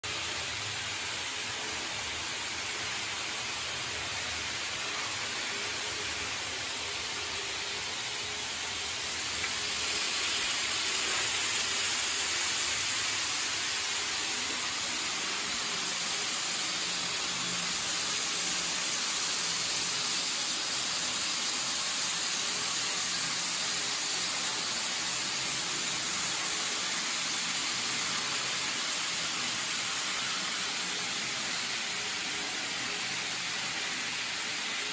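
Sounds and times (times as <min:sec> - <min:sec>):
model trains whirring on track: 0:00.1 - 0:34.9.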